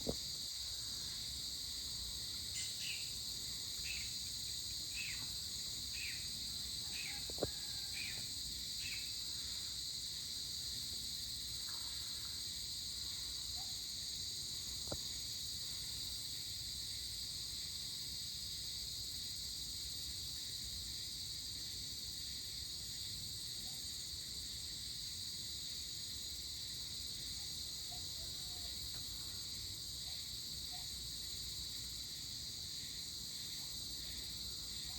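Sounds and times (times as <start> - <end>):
crickets and insects chorus: 0.0 - 34.9.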